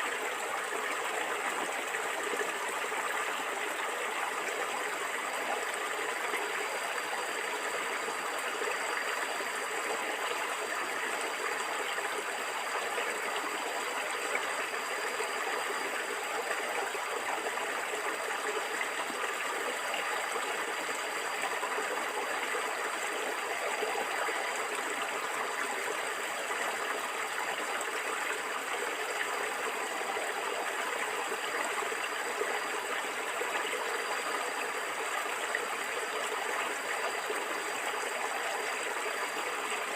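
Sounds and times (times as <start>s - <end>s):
flowing water gurgling: 0.0s - 39.9s.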